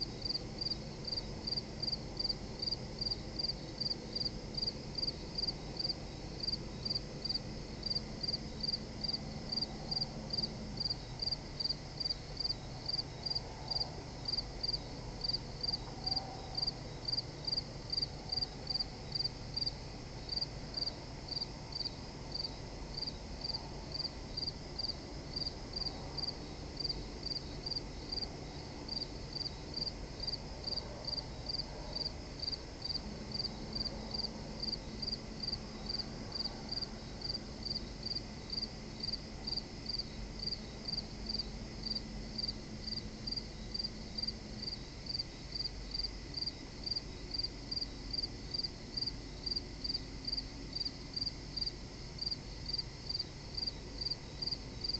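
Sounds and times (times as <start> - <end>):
cricket chirping: 0.0 - 54.9
faint low hum: 0.0 - 54.9.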